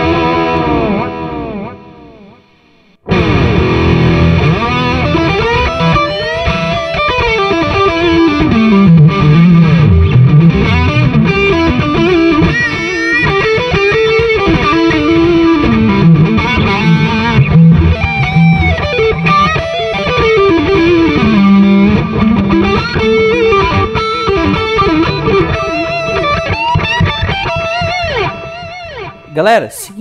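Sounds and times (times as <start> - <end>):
distorted electric guitar lead: 0.0 - 29.8.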